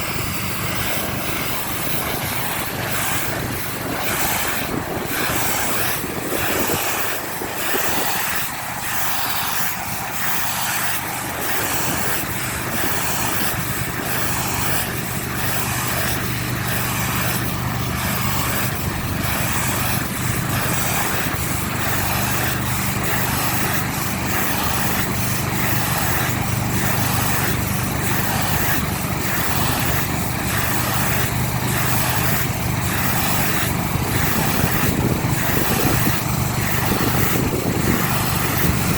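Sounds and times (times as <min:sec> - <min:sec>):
high-pressure water spray hissing: 0:00.0 - 0:38.9
pressure washer engine hum: 0:00.0 - 0:38.9.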